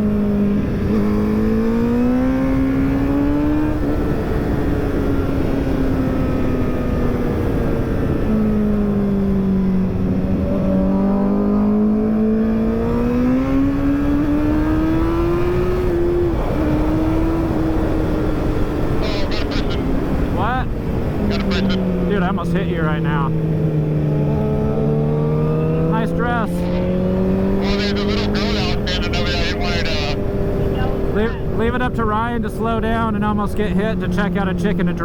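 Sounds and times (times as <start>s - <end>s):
motorcycle engines cruising: 0.0s - 35.0s.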